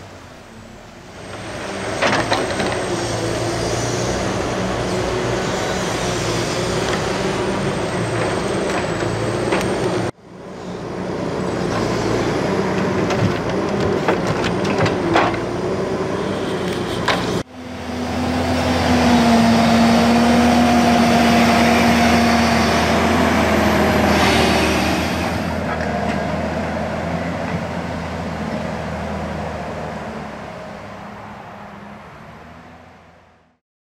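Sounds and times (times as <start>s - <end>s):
diesel engine running: 1.1s - 30.9s.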